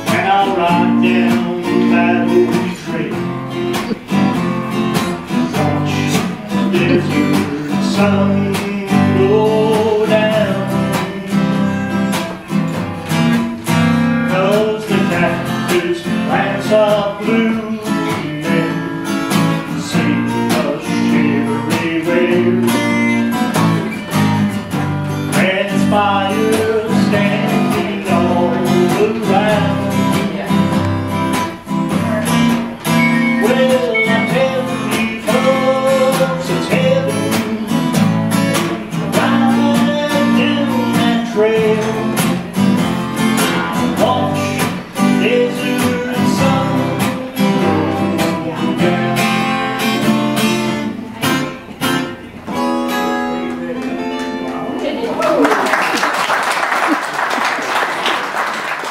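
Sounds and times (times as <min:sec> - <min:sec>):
guitar melody line bending: 0:00.0 - 0:55.1
acoustic guitars strumming: 0:00.0 - 0:55.2.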